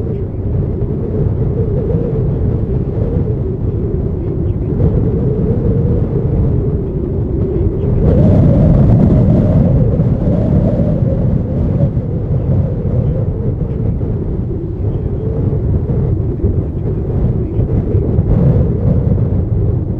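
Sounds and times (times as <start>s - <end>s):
jet engines rumbling: 0.0s - 19.9s
wind buffeting microphone: 0.0s - 19.9s.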